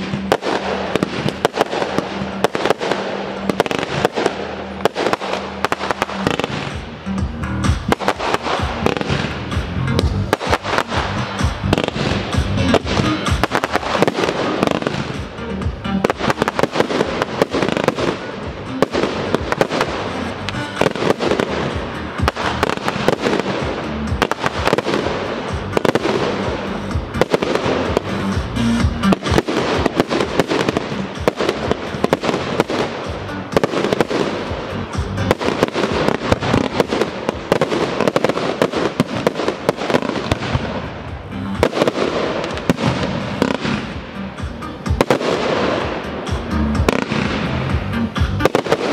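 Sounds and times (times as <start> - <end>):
fireworks bursting: 0.0 - 48.9
music: 0.0 - 48.9.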